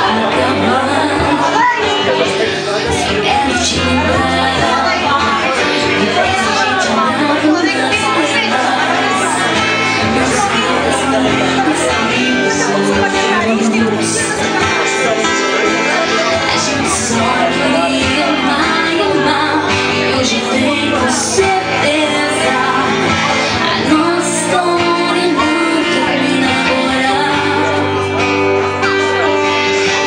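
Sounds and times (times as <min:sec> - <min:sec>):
woman singing into a microphone: 0:00.0 - 0:15.2, 0:16.0 - 0:30.0
strummed acoustic guitars: 0:00.0 - 0:30.0.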